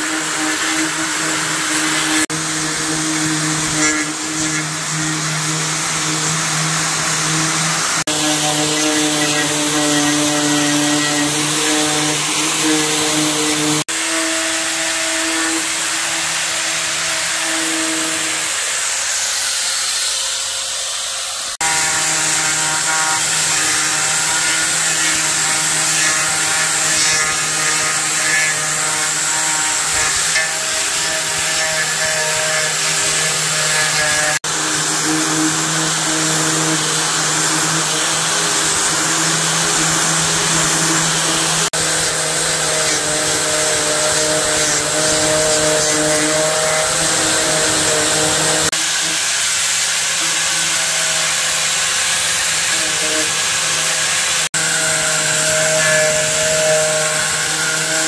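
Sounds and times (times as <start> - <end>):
electric power tool running: 0.0 - 58.0.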